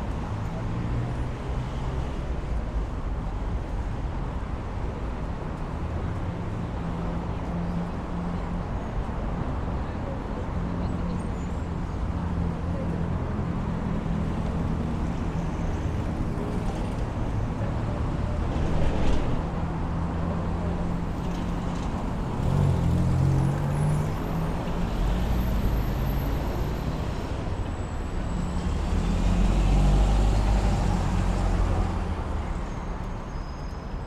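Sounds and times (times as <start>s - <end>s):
car and bus engines passing: 0.0s - 34.0s
street noise: 0.0s - 34.0s.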